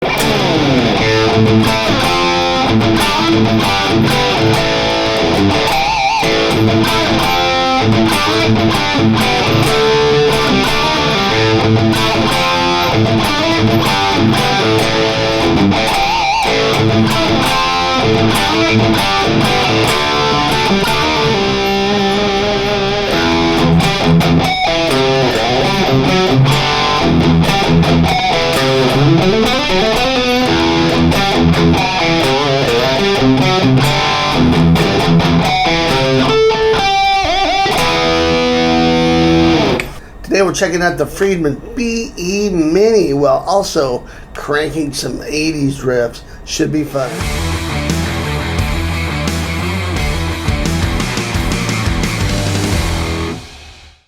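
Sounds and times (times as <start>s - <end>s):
electric guitar metal riffs: 0.0s - 54.0s.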